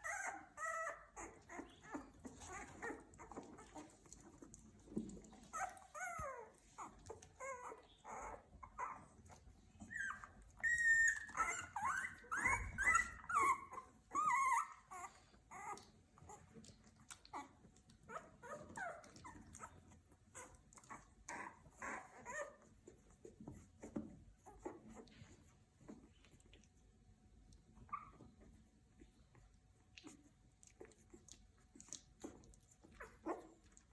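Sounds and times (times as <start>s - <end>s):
puppies squeaking and whimpering: 0.0s - 26.4s, 27.8s - 29.2s, 30.0s - 33.9s.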